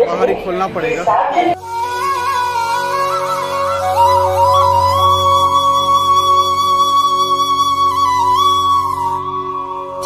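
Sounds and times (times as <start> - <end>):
flute-like melody: 1.5 - 10.0.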